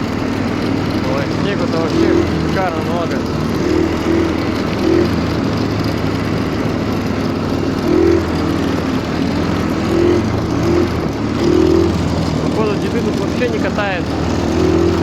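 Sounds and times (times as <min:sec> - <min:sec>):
snowmobile engine under load: 0:00.0 - 0:15.0.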